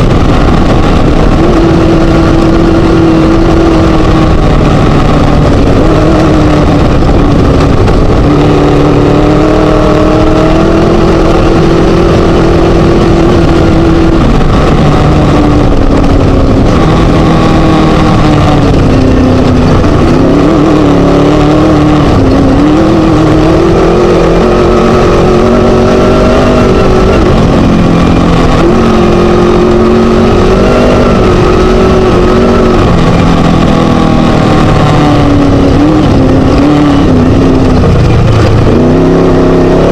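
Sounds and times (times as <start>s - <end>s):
constant rushing noise: 0.0s - 39.9s
race buggy engine running hard: 0.0s - 39.9s.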